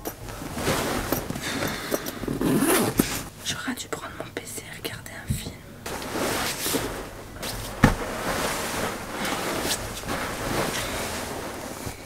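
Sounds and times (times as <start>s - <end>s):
bedding and clothing rustling: 0.0s - 12.0s.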